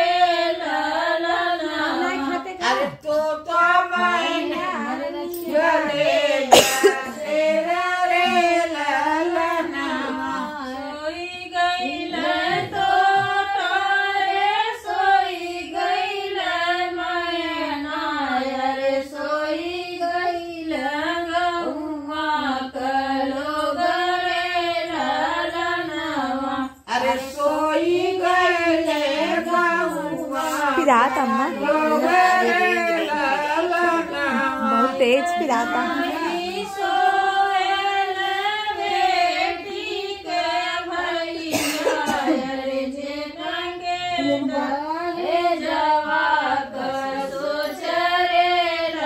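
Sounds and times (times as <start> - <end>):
women singing in unison: 0.0 - 49.0.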